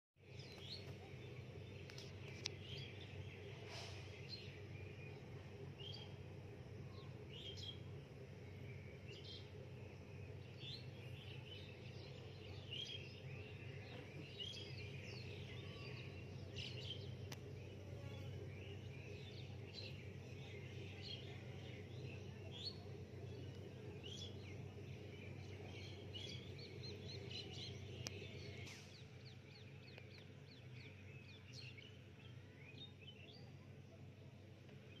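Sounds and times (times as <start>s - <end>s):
low background hum: 0.2s - 35.0s
small birds chirping: 0.2s - 35.0s.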